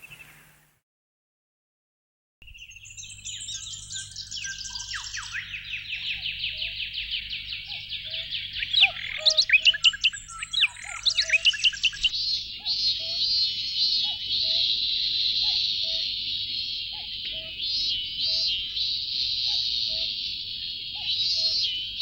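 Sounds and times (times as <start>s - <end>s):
birds chirping and trilling: 0.0s - 0.7s, 2.5s - 22.0s.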